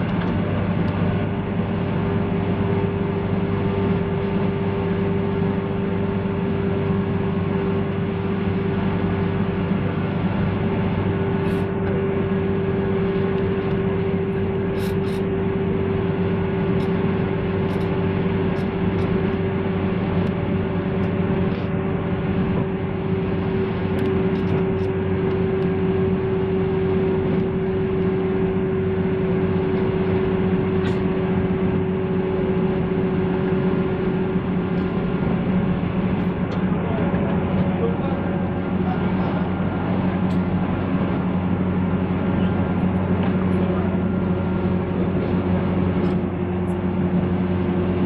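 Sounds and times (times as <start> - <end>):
electric train humming: 0.0 - 48.0.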